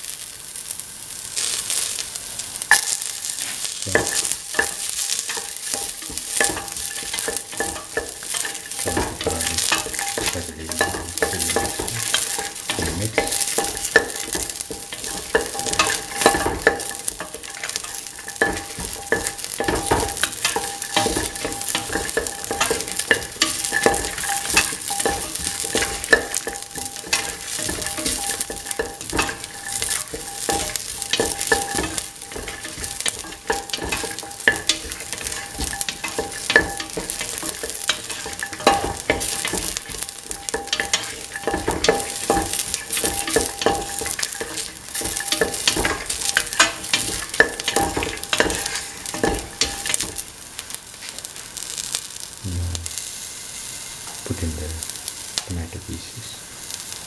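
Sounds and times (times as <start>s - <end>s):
food sizzling in oil: 0.0s - 57.0s
utensil scraping a pan: 2.7s - 50.2s.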